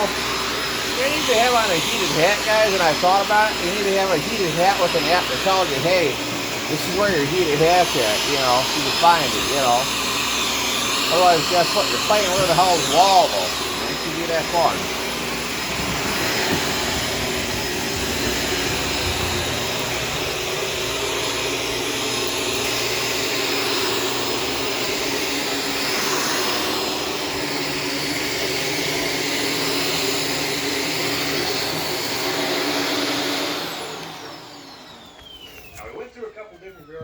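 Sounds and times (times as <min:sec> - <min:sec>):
upright vacuum running: 0:00.0 - 0:37.0.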